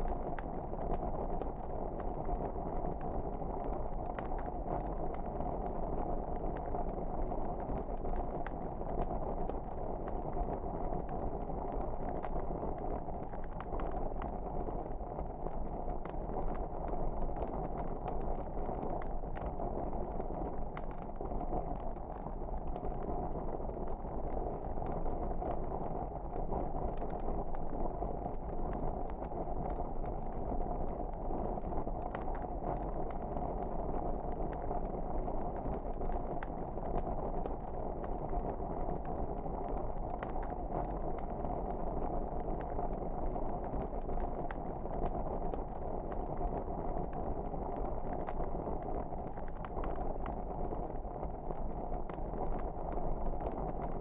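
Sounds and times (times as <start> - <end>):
low rush of flame: 0.0 - 52.7
fire crackling and popping: 0.0 - 54.0.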